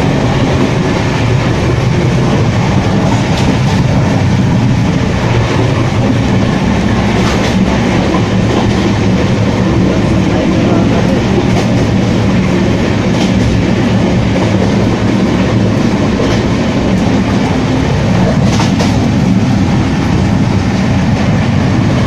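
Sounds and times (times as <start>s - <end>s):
train coach rumble: 0.0s - 22.0s.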